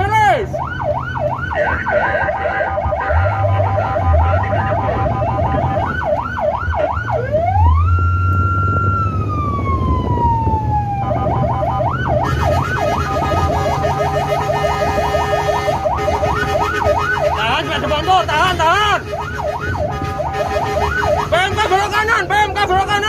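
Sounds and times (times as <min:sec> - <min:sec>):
electronic siren: 0:00.0 - 0:23.0
engine humming: 0:00.0 - 0:23.0.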